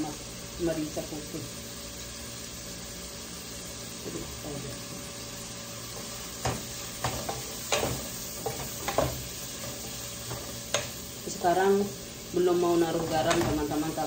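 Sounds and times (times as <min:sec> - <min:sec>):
shrimp sizzling in a pot: 0:00.0 - 0:14.0.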